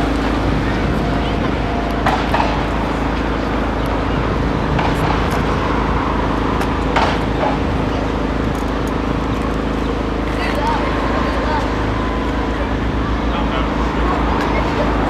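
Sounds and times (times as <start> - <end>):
engine humming: 0.0 - 15.0
faint voices: 0.0 - 15.0.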